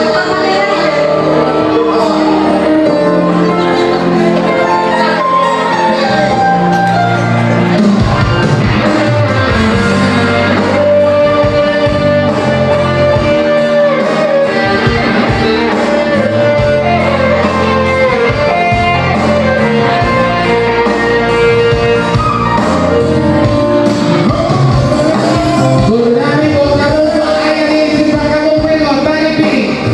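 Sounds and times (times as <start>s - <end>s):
electronic keyboard music: 0.0s - 29.9s
person singing: 0.0s - 29.9s.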